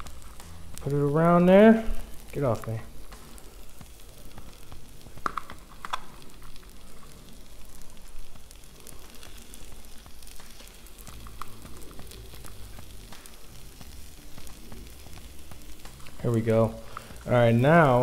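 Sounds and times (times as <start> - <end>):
potatoes sizzling on a griddle: 0.0 - 18.0.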